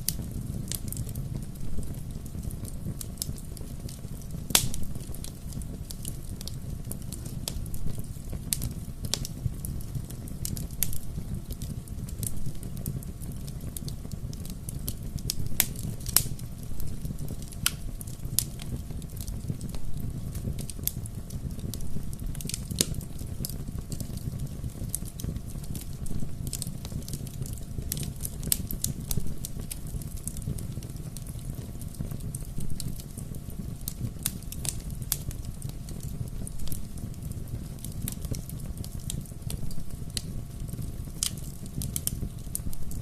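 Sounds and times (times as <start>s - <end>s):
burning wood crackling and popping: 0.0s - 43.0s
low rumble of flames: 0.0s - 43.0s.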